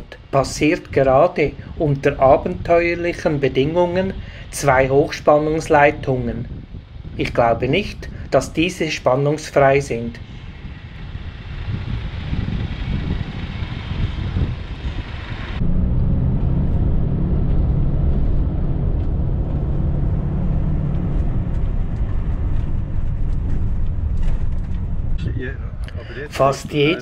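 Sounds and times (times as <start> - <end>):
diesel truck engines droning: 0.0 - 27.0.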